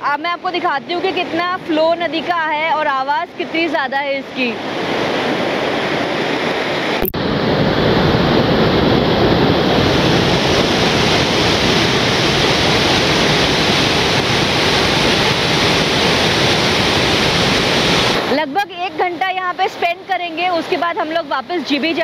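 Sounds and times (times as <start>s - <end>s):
river rushing over rapids: 0.0s - 22.0s.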